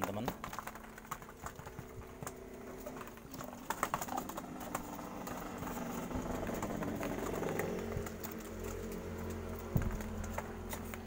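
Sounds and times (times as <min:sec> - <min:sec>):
beaks clicking on grain: 0:00.0 - 0:11.0
dove cooing: 0:00.6 - 0:10.6.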